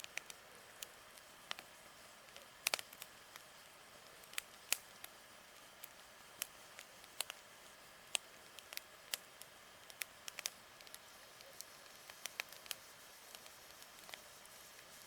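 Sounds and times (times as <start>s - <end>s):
campfire crackling: 0.0s - 15.0s
faint steady hiss: 0.0s - 15.0s.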